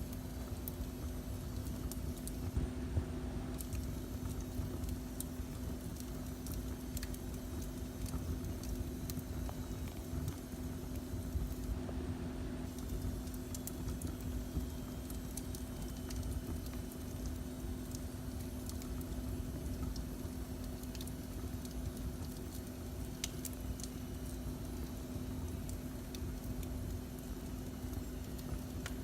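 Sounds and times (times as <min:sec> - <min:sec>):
fire crackles and pops: 0:00.0 - 0:12.0, 0:12.6 - 0:29.0
flames rumbling: 0:00.0 - 0:12.0, 0:12.6 - 0:29.0.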